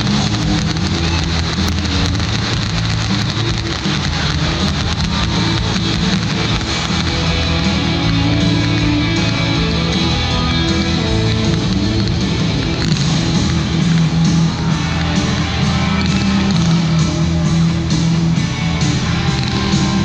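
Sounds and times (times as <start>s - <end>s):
rock music: 0.0s - 20.0s
strummed electric guitar: 0.0s - 20.0s.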